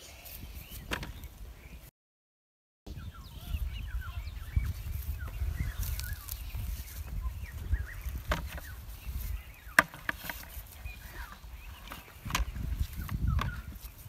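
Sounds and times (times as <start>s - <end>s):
small birds chirping: 0.0s - 1.9s, 2.9s - 14.0s.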